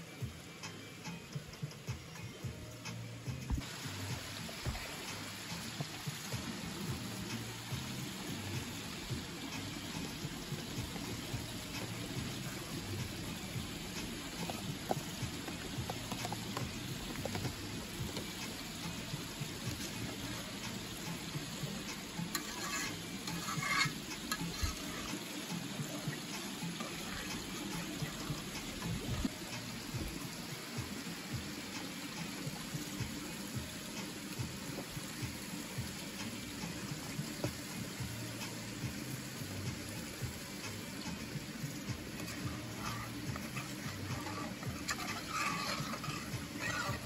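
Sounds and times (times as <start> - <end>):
stream water rushing: 3.5 - 47.0
cooking clicks and scrapes: 3.6 - 47.0.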